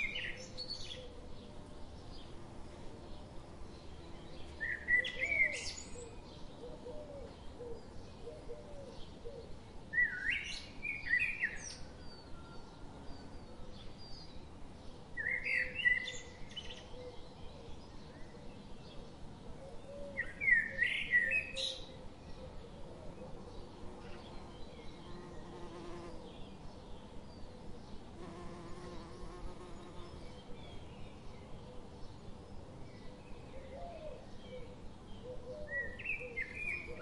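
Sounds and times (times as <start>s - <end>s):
songbird singing chirpy notes: 0.0s - 37.0s.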